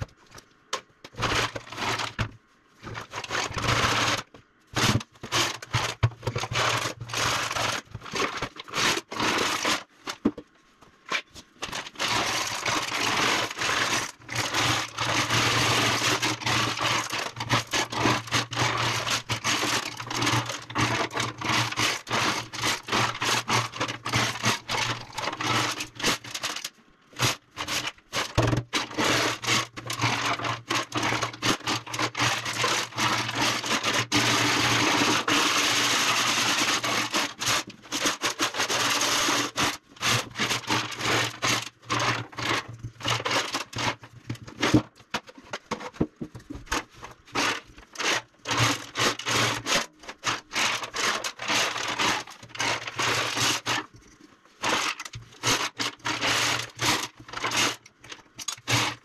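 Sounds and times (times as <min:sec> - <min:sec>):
rapid scraping on metal tank: 0:01.1 - 0:10.3, 0:11.2 - 0:59.0.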